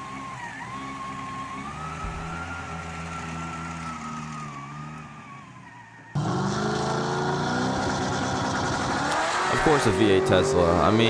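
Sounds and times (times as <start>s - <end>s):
car engine running with whine: 0.0s - 11.0s.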